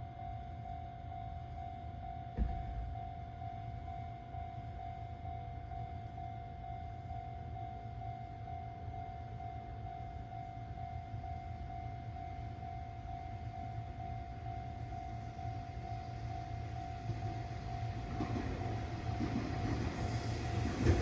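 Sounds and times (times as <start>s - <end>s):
level crossing warning bell: 0.0s - 19.9s.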